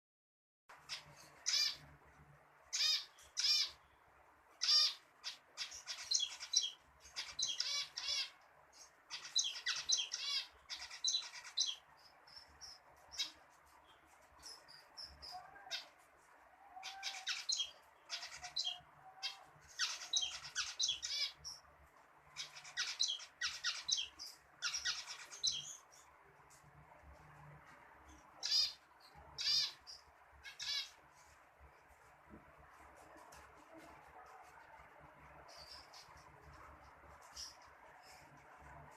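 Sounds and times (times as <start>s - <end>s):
finch chirping song: 0.7s - 1.9s, 2.6s - 38.9s.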